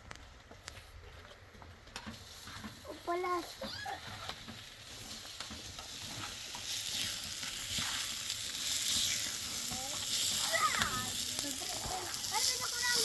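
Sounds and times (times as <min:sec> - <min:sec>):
food sizzling in a pan: 0:02.2 - 0:13.0.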